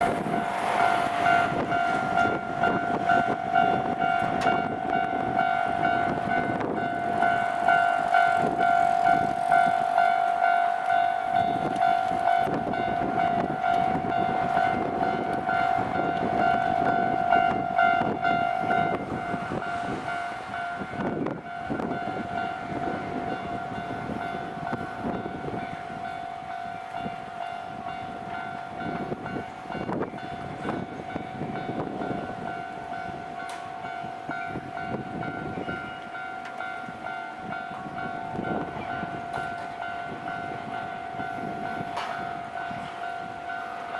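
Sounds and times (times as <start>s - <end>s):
level crossing warning bell ringing: 0.0s - 43.9s
train rumble and wheel clatter: 0.0s - 43.9s.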